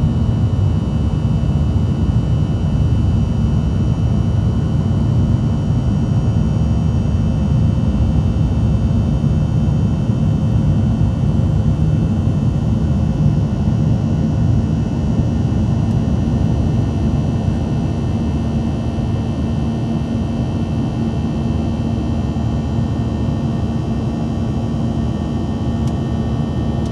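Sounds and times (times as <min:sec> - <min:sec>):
jet engine cabin rumble: 0:00.0 - 0:26.9.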